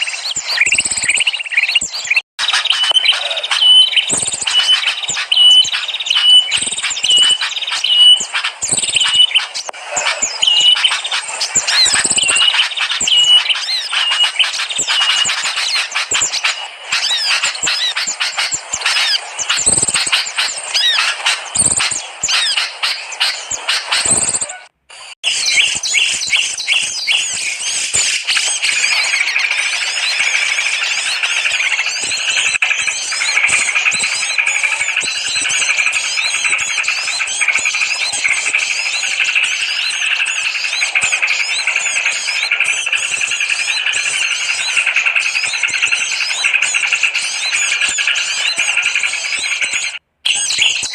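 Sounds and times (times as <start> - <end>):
bird twittering and trills: 0.0 - 50.9
high bird chirps: 0.0 - 50.9.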